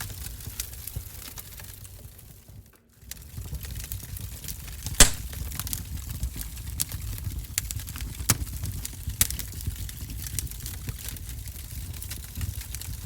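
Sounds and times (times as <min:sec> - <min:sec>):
wood fire crackling in stove: 0:00.0 - 0:13.0.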